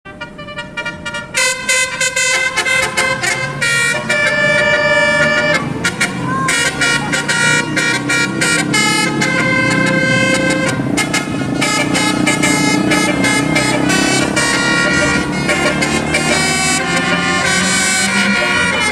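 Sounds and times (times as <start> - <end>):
musical bus air horns: 0.1 - 18.9.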